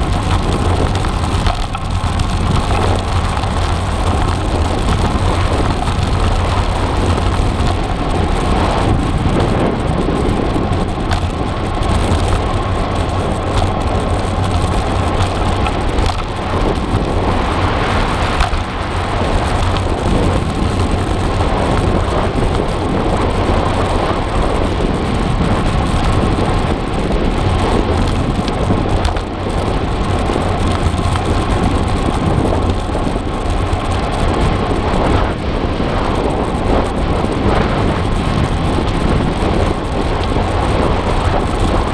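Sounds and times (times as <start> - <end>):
road noise: 0.0 - 41.9
wind buffeting microphone: 0.0 - 41.9.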